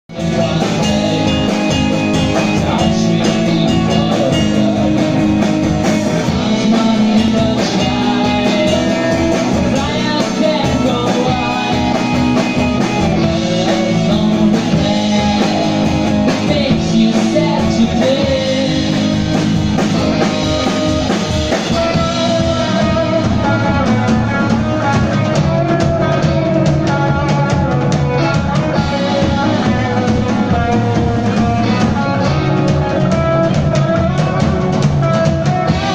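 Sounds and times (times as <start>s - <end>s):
electric bass: 0.0s - 35.9s
drum kit beat: 0.1s - 35.9s
electric guitars: 0.1s - 35.9s
person singing: 0.1s - 35.9s.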